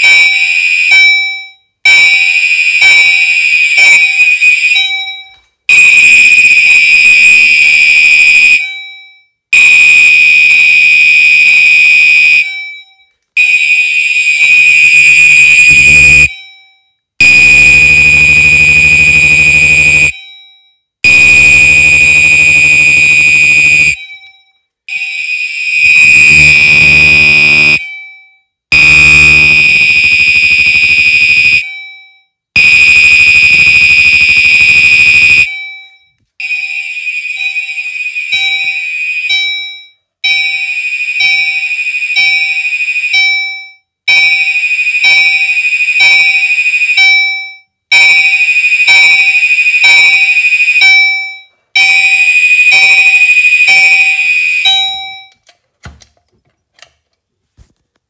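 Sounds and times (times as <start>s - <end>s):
fire alarm horn blasts: 1.9s - 8.8s, 9.5s - 12.8s, 13.4s - 16.5s, 17.2s - 20.3s, 21.0s - 47.2s, 47.9s - 55.3s.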